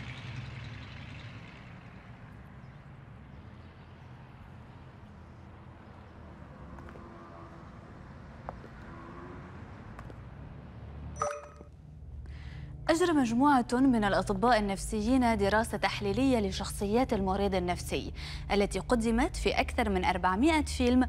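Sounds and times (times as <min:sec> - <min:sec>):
distant traffic rumble: 0:00.0 - 0:21.0.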